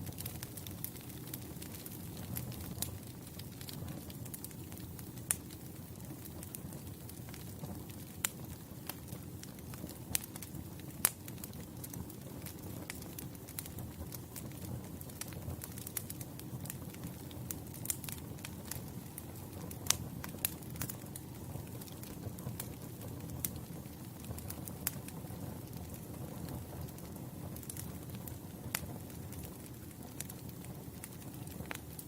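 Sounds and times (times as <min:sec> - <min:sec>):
campfire rumbling: 0:00.0 - 0:32.0
fire crackles and pops: 0:00.0 - 0:32.0.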